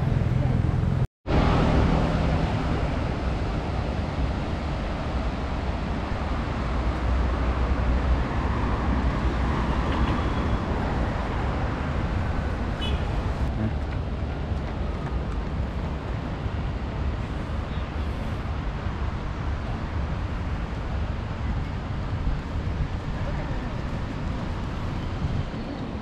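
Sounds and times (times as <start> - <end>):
road traffic: 0.0 - 26.0
wind buffeting microphone: 0.0 - 26.0.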